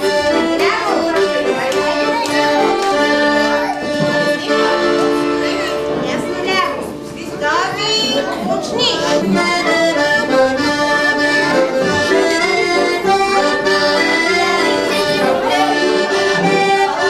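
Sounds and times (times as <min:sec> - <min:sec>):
accordion playing folk dance tune: 0:00.0 - 0:17.0.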